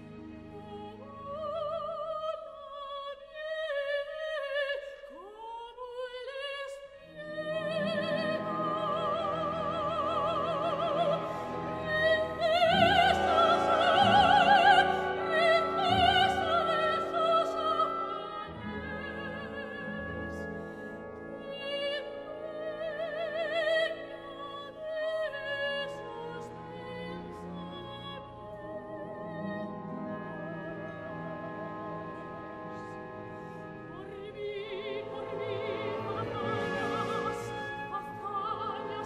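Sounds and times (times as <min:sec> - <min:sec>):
symphony orchestra: 0:00.0 - 0:39.0
operatic female voice singing: 0:00.5 - 0:20.7, 0:21.4 - 0:32.5, 0:33.8 - 0:39.0.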